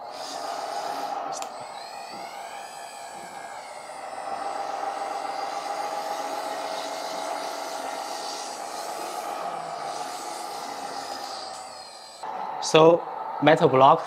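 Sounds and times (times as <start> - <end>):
toy tractor motor hum: 0.0 - 12.3
motor whine: 0.0 - 14.0.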